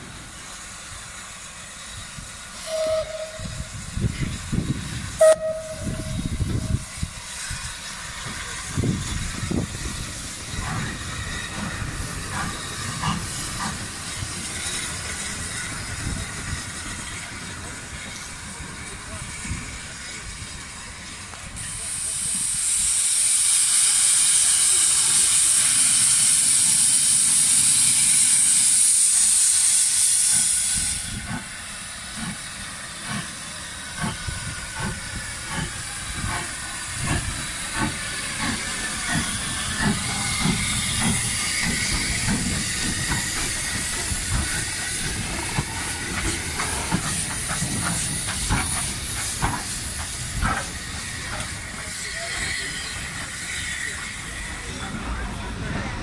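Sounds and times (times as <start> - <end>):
steam hissing loudly: 0.0 - 56.0.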